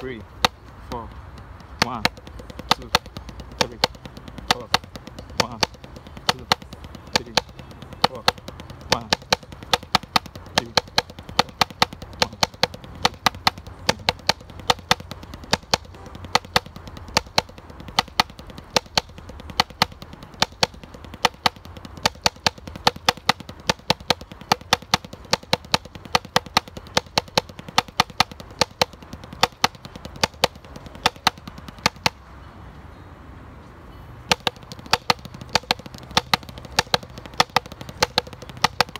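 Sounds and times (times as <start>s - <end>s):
drumsticks tapping practice pad: 0.0s - 32.3s, 34.2s - 38.9s.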